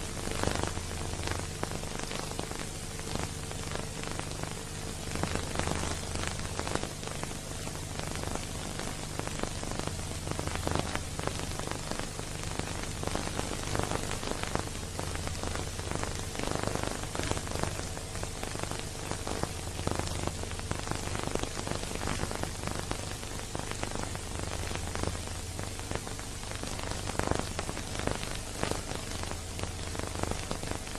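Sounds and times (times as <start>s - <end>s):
film soundtrack crackle and hiss: 0.0s - 30.9s
low steady hum: 0.0s - 30.9s.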